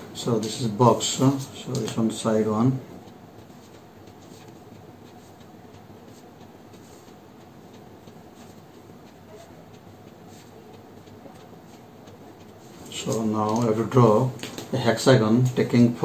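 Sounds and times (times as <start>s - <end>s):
pen scratching on paper: 0.4s - 13.6s.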